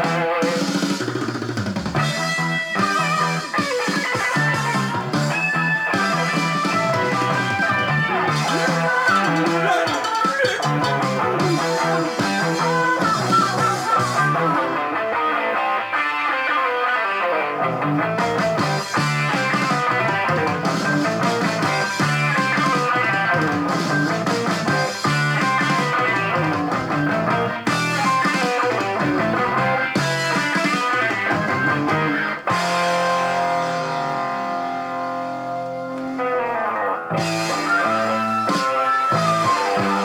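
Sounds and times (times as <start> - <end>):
rock guitar over bass: 0.0 - 40.0.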